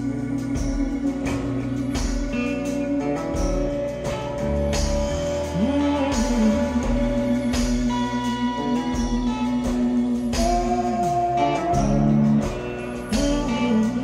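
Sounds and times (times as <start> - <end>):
band music: 0.0 - 14.0
steady drum beat: 0.0 - 14.0.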